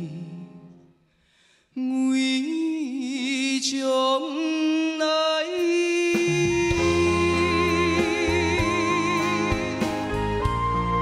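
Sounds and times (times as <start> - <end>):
man singing a cappella: 0.0 - 0.8, 1.7 - 10.2.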